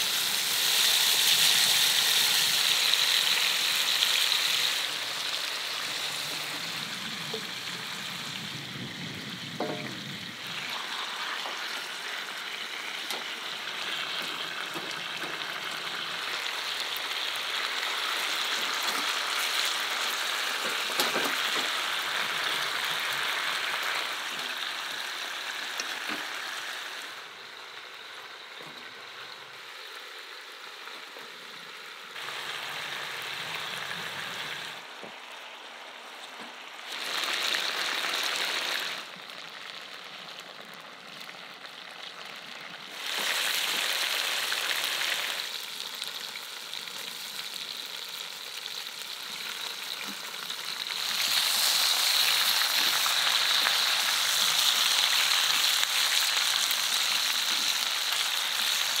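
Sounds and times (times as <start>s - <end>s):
meat sizzling in a pot: 0.0s - 34.8s, 36.8s - 59.0s.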